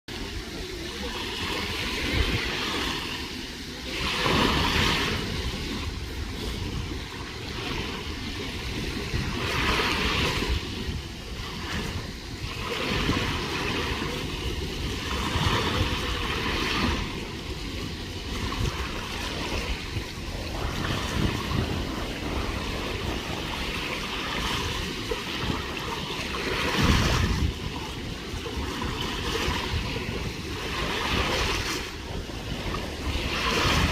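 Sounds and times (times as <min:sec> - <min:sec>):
sea waves washing onto beach: 0:00.1 - 0:33.9
wind buffeting microphone: 0:00.1 - 0:33.9.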